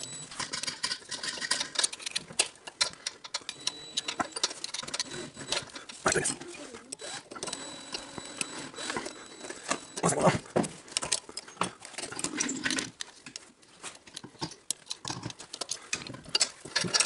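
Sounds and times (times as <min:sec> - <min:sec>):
hand tools clicking on metal chain: 0:00.0 - 0:10.3, 0:11.0 - 0:17.0.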